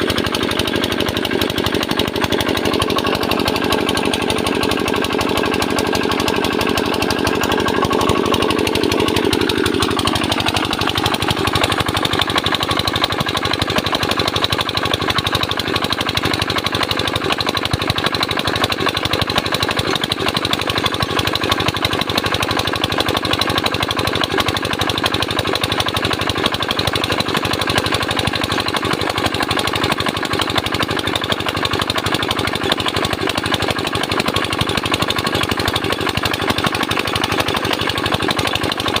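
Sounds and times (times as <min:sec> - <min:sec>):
diesel engine knocking: 0:00.0 - 0:39.0.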